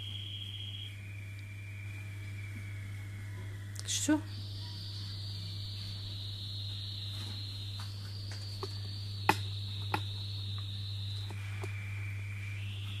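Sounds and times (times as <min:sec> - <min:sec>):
high-pitched whine: 0:00.0 - 0:13.0
low hum: 0:00.0 - 0:13.0.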